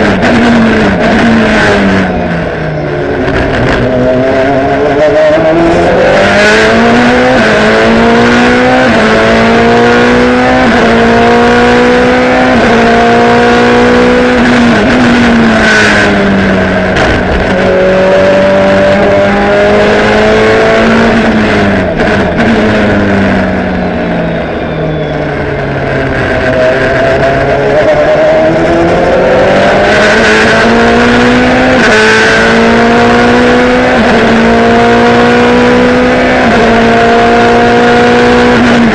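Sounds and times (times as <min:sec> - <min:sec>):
racing engine revving through gears: 0:00.0 - 0:38.9.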